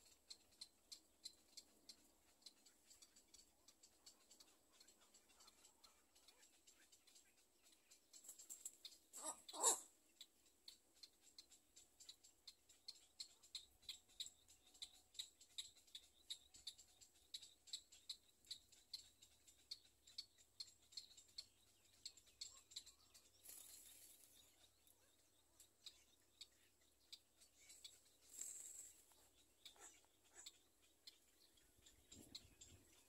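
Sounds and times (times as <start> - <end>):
heron chicks ticking begging calls: 0.0 - 33.0.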